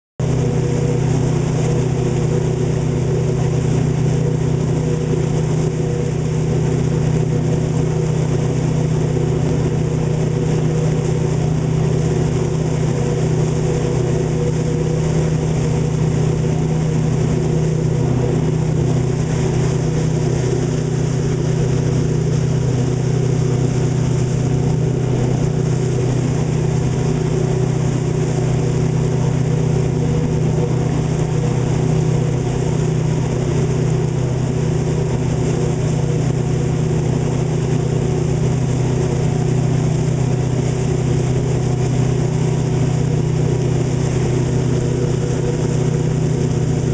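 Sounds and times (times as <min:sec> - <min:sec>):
boat motor running: 0:00.2 - 0:46.9.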